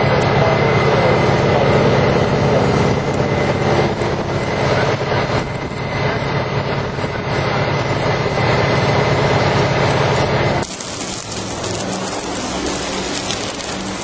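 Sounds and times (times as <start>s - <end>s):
brush fire flames and wind rushing: 0.0s - 14.0s
engine drone: 0.0s - 14.0s.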